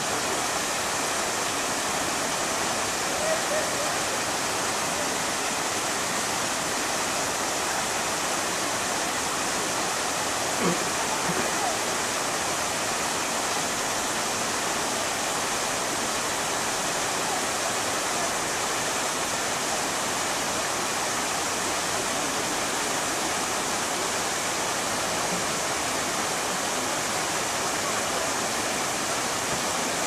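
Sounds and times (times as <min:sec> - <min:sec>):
waterfall pouring into pool: 0:00.0 - 0:30.0.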